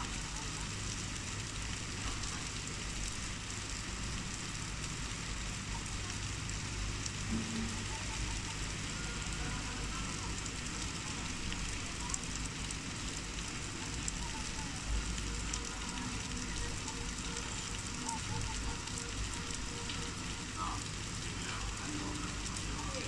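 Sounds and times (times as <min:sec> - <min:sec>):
rain downpour hiss: 0:00.0 - 0:23.0.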